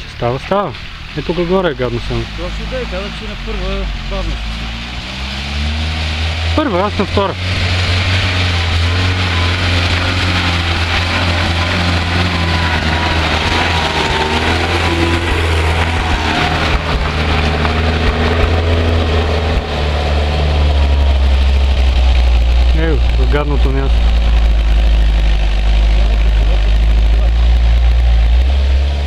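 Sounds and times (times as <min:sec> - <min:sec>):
vehicle engine under load: 0:00.0 - 0:29.0.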